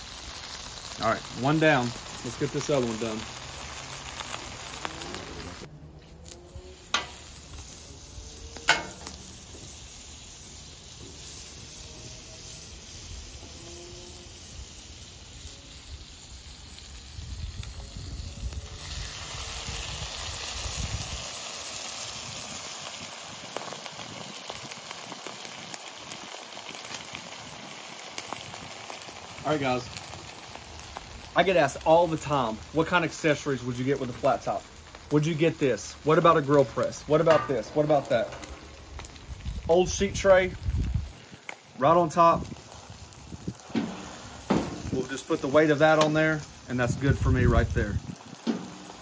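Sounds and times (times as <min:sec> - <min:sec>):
sandwiches sizzling on a griddle: 0:00.0 - 0:49.0.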